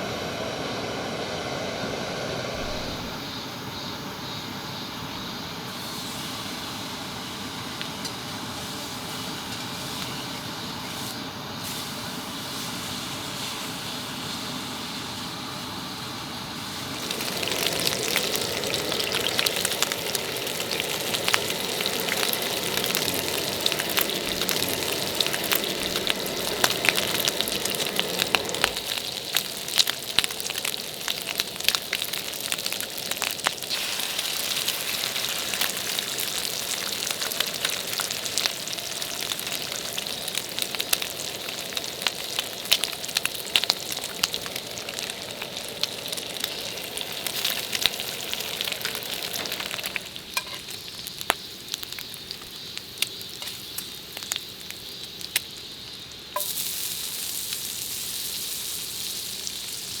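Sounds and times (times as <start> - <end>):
bright high hiss: 0.0 - 60.0
food sizzling in a hot pan: 4.2 - 60.0.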